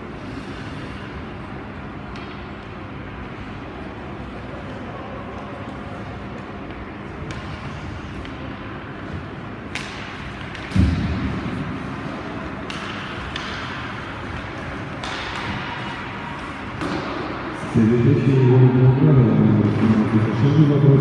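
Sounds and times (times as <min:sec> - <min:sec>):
ice hockey arena noise: 0:00.0 - 0:21.0.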